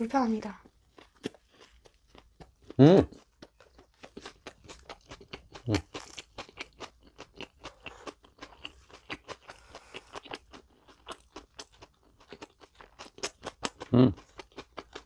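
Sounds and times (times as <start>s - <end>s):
crunchy chewing: 0.6s - 15.0s.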